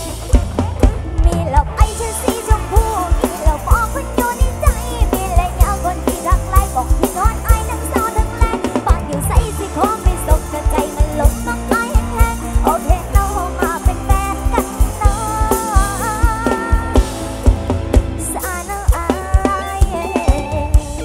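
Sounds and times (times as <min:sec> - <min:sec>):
bass line: 0:00.0 - 0:21.0
drum kit steady beat: 0:00.0 - 0:21.0
woman singing into microphone: 0:01.2 - 0:17.2, 0:18.2 - 0:21.0.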